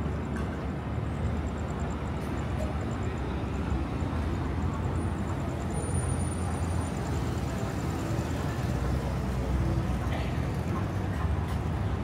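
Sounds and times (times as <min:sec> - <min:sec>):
street low rumble: 0:00.0 - 0:12.0.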